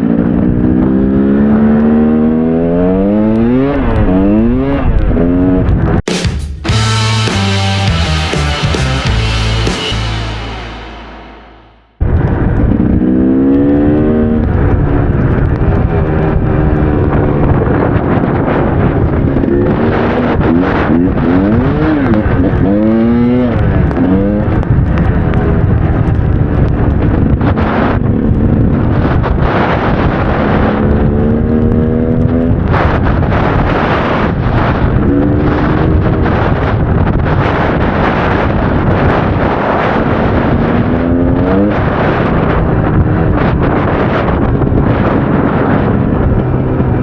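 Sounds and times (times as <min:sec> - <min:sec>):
two-stroke motorcycle engine revving: 0:00.0 - 0:11.8, 0:12.6 - 0:47.0.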